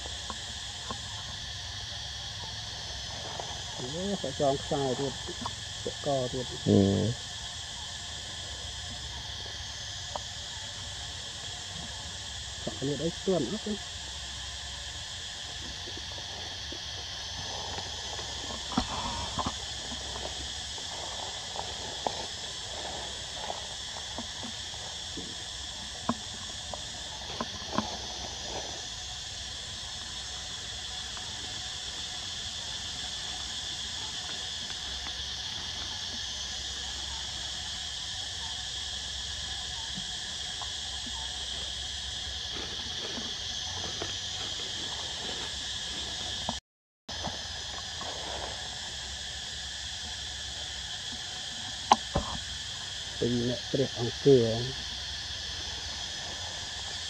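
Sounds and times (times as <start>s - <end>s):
crackles of dry leaf litter: 0.0s - 7.2s, 7.9s - 46.5s, 47.1s - 57.0s
insect chorus: 0.0s - 57.0s.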